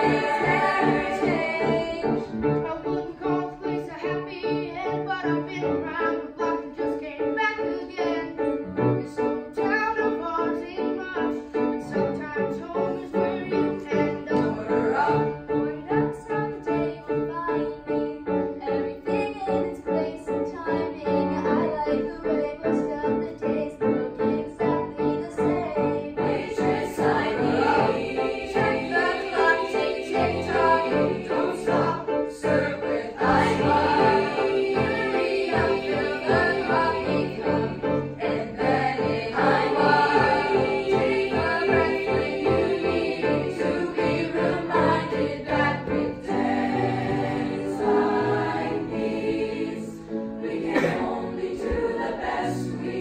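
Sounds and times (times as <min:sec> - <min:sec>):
youth choir singing: 0:00.0 - 0:05.4, 0:09.0 - 0:53.0
piano chords: 0:00.0 - 0:53.0.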